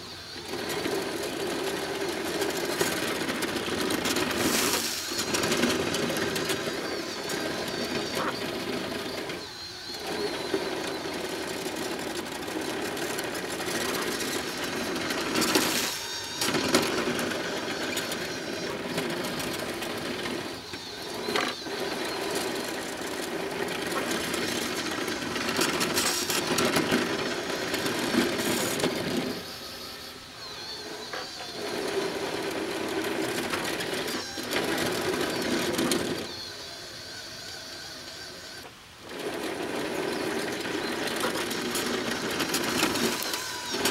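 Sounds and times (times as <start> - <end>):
small motors and gearboxes whining: 0.0 - 43.9.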